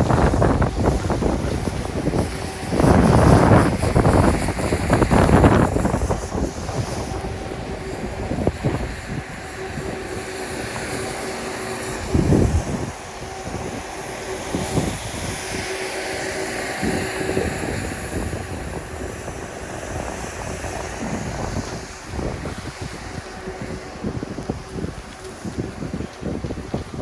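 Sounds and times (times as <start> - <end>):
skis sliding over snow: 0.0 - 27.0
wind rushing over microphone: 0.0 - 27.0.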